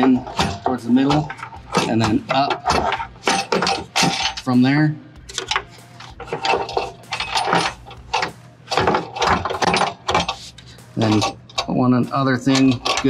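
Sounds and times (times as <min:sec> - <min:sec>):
hard clicks and rattles of housings: 0:00.0 - 0:04.5, 0:05.3 - 0:11.8, 0:12.4 - 0:13.0.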